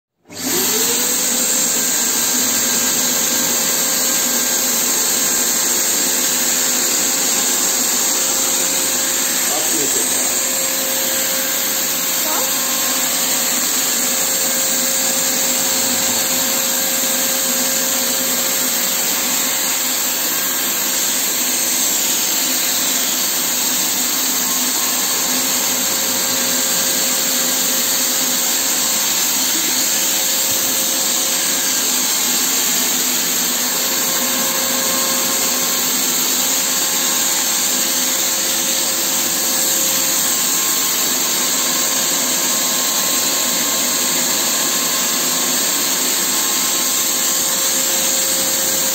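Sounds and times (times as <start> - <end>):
paint sprayer air hiss: 0.5 - 48.9.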